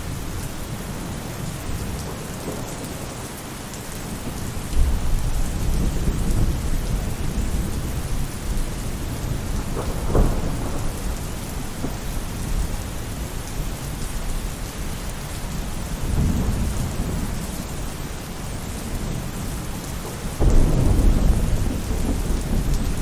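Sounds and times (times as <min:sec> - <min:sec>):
rain falling on a roof: 0:00.0 - 0:23.0
low thunder rumbling: 0:04.0 - 0:23.0.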